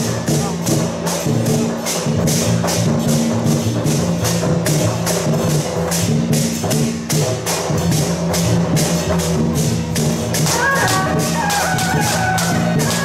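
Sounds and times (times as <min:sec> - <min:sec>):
sharp percussion strikes: 0:00.0 - 0:13.0.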